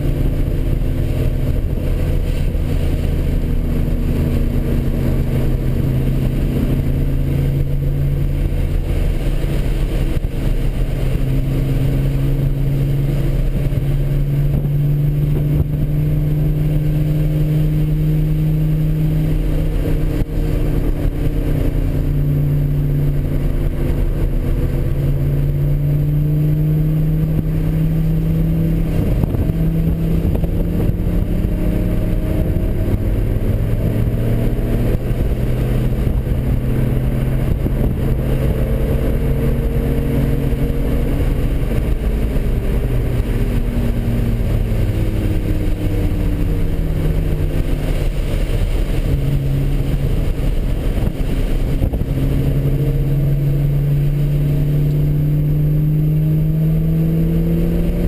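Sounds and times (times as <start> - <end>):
car engine running hard: 0.0 - 58.0.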